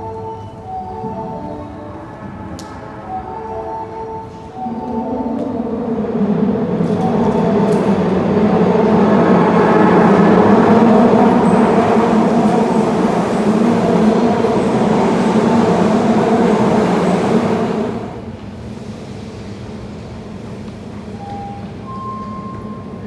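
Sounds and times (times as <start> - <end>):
subway train rumbling past: 0.0 - 23.0.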